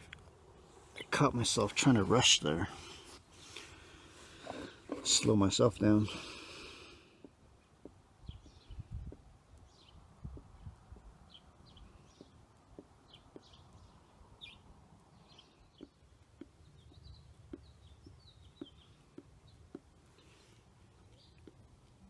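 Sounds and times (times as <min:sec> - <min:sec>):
birds chirping: 0:01.0 - 0:22.0.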